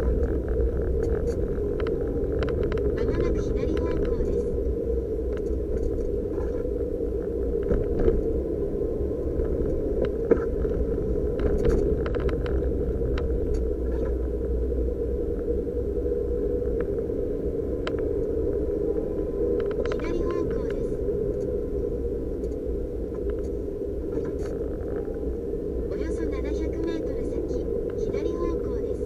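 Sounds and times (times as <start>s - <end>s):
car engine drone: 0.0s - 29.0s
road noise: 0.0s - 29.0s.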